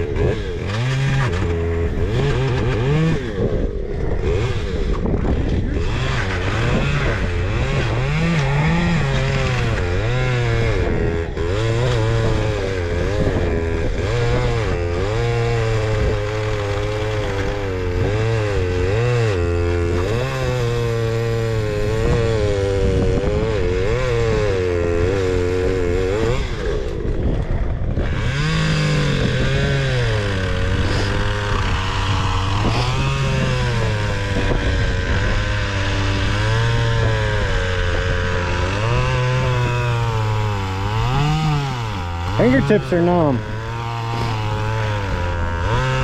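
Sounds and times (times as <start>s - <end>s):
chainsaw cutting log: 0.0s - 46.0s.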